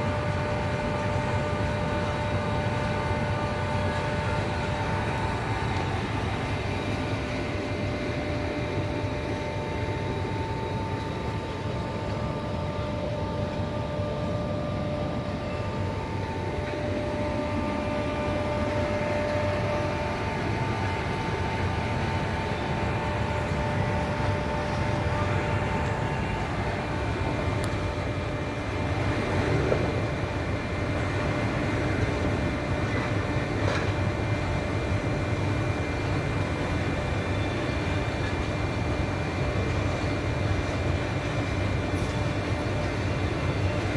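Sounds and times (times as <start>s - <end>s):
faint whining tones: 0.0s - 43.9s.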